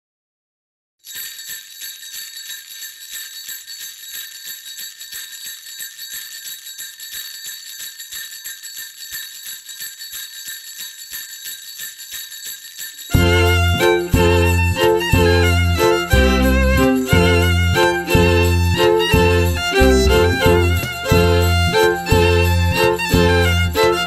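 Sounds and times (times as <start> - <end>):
jingle bells shaken: 1.0 - 24.0.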